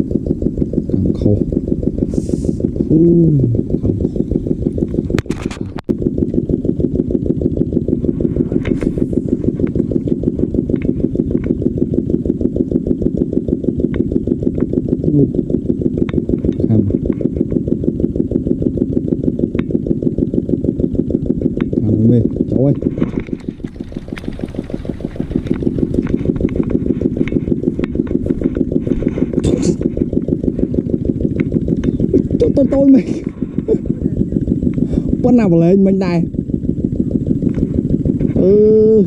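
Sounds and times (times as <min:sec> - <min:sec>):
engine running with throb: 0:00.0 - 0:39.0.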